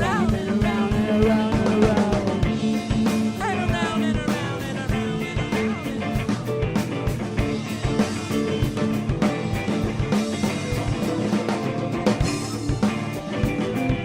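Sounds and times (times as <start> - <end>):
drum beat: 0.0 - 14.0
live funk band playing: 0.0 - 14.0.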